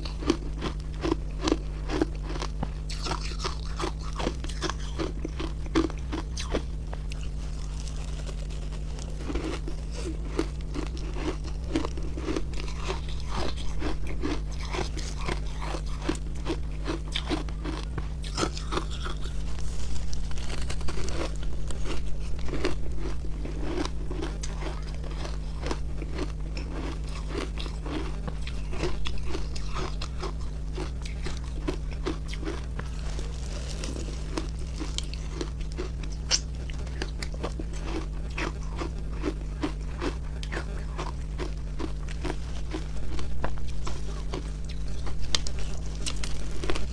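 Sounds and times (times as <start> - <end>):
person crunching ice: 0.0 - 46.9
steady low hum: 0.0 - 46.9.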